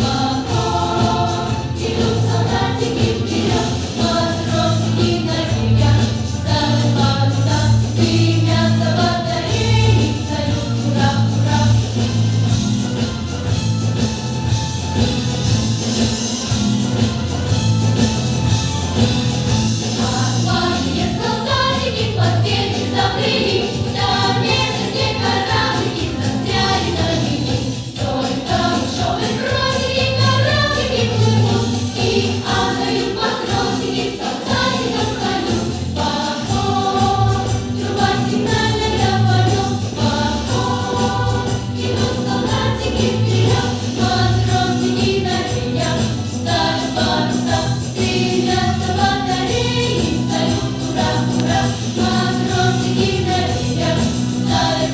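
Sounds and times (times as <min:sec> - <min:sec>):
children singing together: 0:00.0 - 0:12.1, 0:19.9 - 0:54.9
band playing steady beat: 0:00.0 - 0:54.9.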